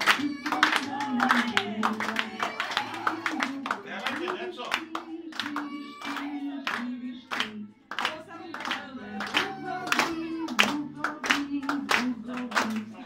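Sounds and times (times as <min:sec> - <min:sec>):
party song tune: 0:00.0 - 0:13.0
people clapping in time: 0:00.0 - 0:13.0.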